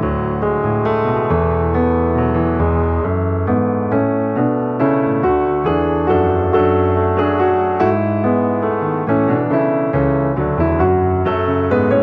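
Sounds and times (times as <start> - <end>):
calm piano music: 0.0 - 12.0.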